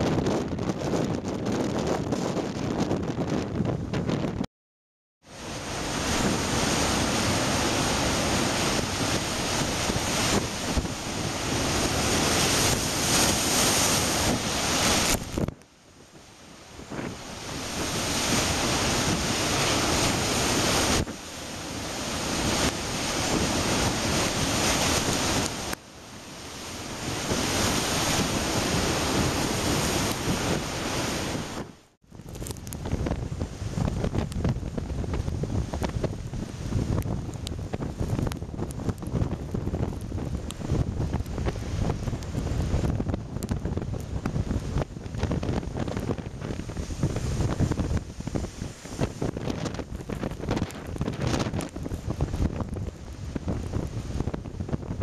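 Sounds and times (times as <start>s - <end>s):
wind buffeting microphone: 0.0s - 4.4s, 5.3s - 55.0s
heavy surf breaking: 5.3s - 55.0s.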